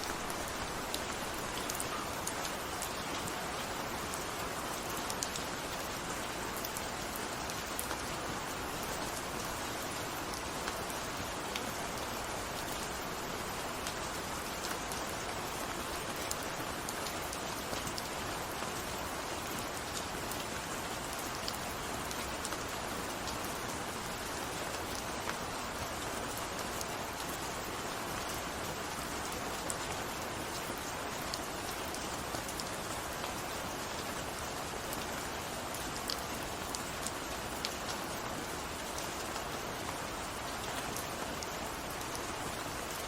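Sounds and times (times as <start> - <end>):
rain falling on a surface: 0.0 - 43.0.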